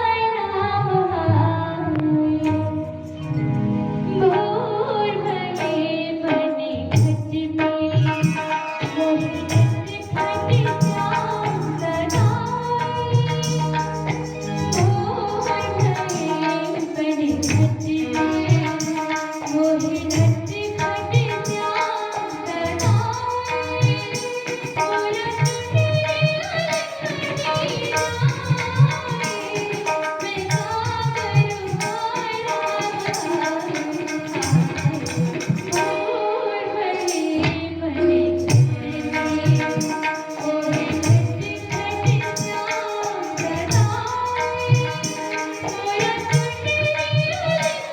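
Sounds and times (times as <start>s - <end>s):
woman singing: 0.0s - 3.2s, 4.1s - 47.9s
tabla drum strokes: 6.9s - 36.1s, 38.4s - 47.9s.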